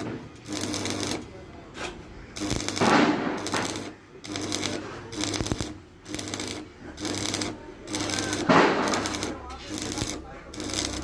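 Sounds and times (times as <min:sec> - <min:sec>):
arc welding crackling: 0:00.0 - 0:11.0
welding machine hum: 0:00.0 - 0:11.0.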